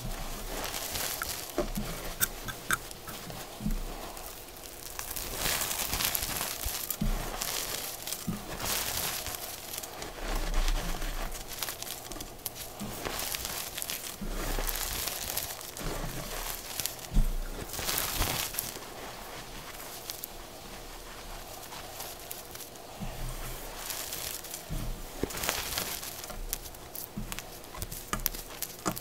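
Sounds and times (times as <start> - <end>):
chalk being crushed by hand: 0.4 - 29.0.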